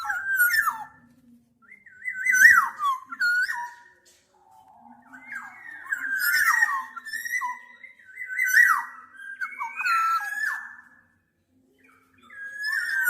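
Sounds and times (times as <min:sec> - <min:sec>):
bird singing fluty whistles: 0:00.0 - 0:13.0.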